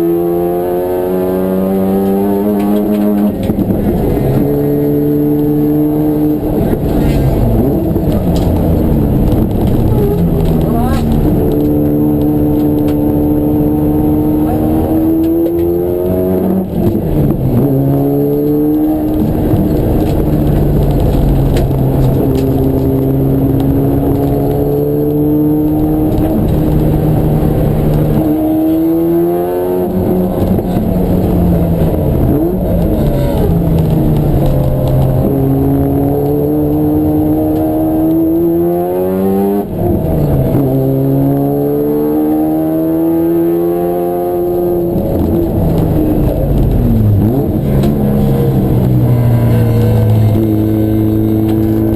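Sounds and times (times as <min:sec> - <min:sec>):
racing car engine revving: 0:00.0 - 0:51.9.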